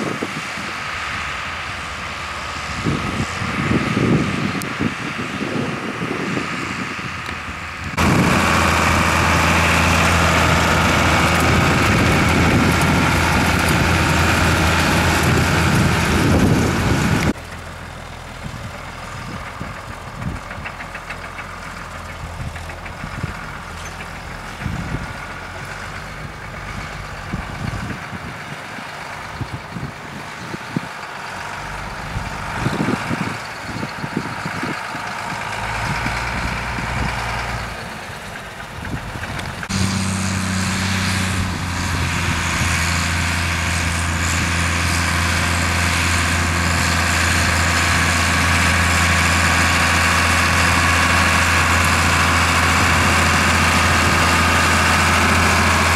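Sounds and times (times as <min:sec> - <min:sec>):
tractor diesel engine under load: 0:00.0 - 0:55.9.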